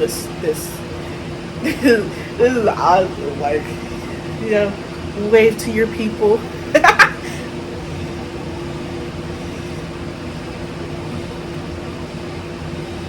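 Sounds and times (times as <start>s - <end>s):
machine hum and hiss: 0.0s - 13.0s.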